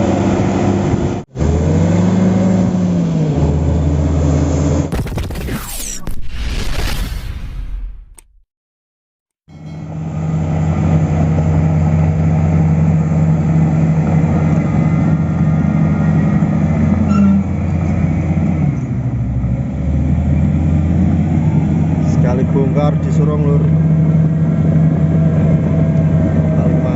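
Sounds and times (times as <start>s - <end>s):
diesel engine running: 0.0s - 5.1s, 9.8s - 26.9s.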